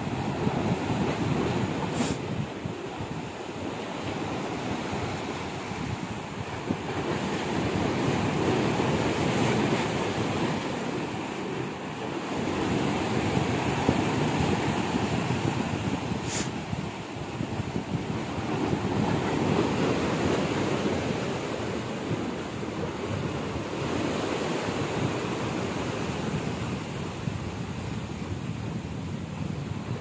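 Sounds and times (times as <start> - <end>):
sea surf breaking: 0.0 - 2.6, 3.5 - 27.0
wind buffeting microphone: 0.0 - 30.0.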